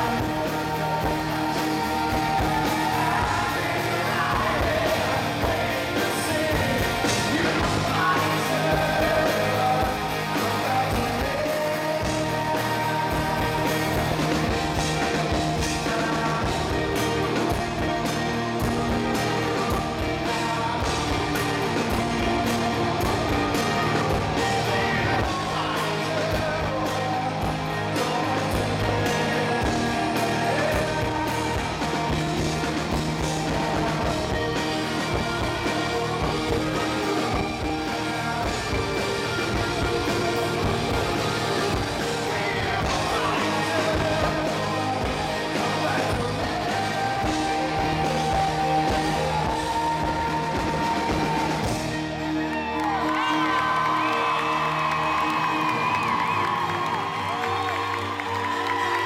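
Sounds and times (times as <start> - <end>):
drums with steady beat: 0.0 - 59.0
electric guitar: 0.0 - 59.0
male lead vocal: 0.0 - 59.0.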